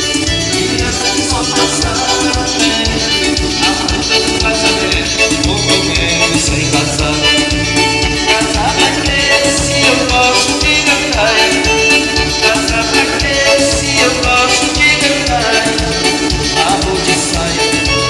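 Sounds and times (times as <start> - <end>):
live dance band music: 0.0 - 18.0
person singing: 0.2 - 18.0.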